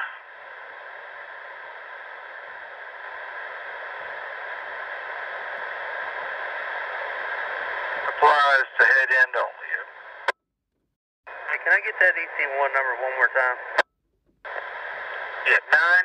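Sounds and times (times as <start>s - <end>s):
radio static hiss: 0.0s - 10.3s, 11.3s - 13.8s, 14.5s - 16.0s.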